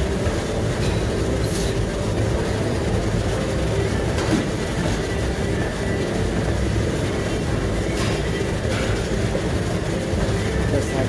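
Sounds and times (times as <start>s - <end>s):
treadmill motor and belt rumble: 0.0s - 11.0s.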